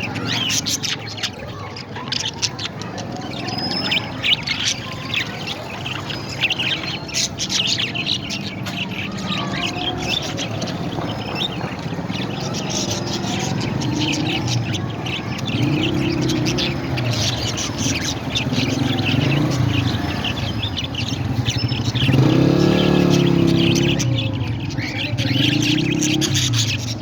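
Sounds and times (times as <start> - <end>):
parrots chirping and chattering: 0.0 - 27.0.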